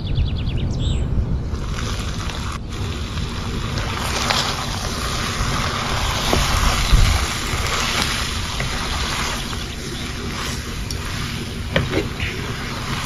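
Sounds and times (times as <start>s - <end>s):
pasta sizzling in frying pan: 1.5s - 13.0s
spatula scraping pan: 1.6s - 13.0s.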